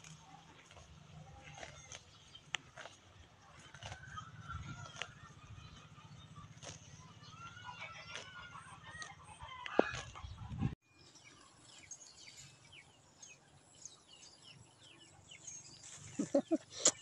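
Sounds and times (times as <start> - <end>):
faint birds calling: 1.4 - 17.0.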